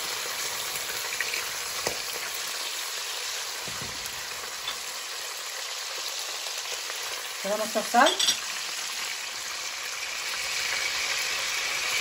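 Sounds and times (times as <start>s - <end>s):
prawns sizzling in a pan: 0.0s - 12.0s.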